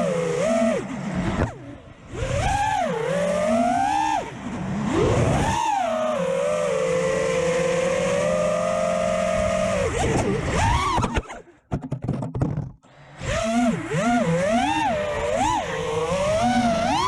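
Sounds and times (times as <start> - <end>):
quadcopter motors whining: 0.0 - 11.7, 12.8 - 17.0
choppy motor clicks: 0.0 - 17.0.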